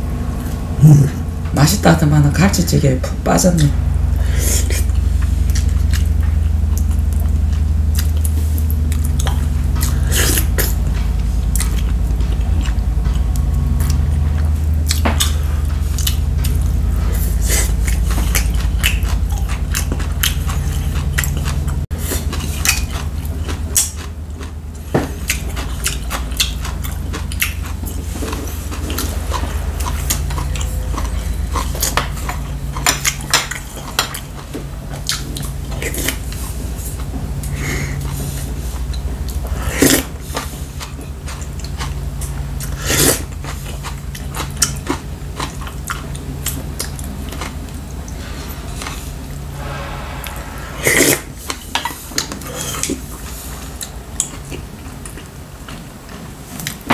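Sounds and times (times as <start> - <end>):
steady low hum: 0.0 - 56.9
man chewing: 3.9 - 49.4, 50.9 - 56.9.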